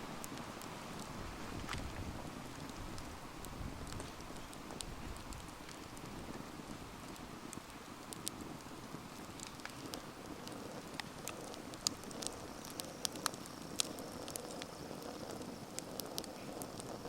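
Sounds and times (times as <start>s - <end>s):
burning wood crackling and popping: 0.0s - 17.0s
campfire hissing: 0.0s - 17.0s.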